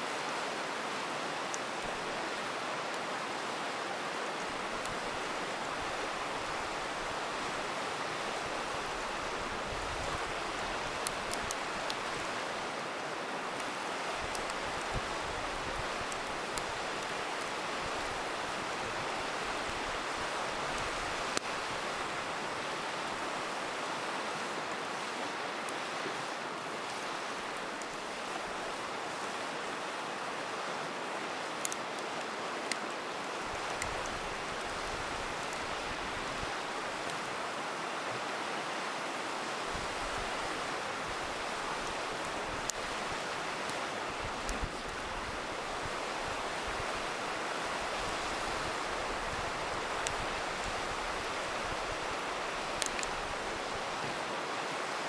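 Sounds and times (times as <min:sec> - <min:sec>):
river rushing: 0:00.0 - 0:55.0
campfire crackling: 0:00.1 - 0:39.0, 0:39.6 - 0:55.0.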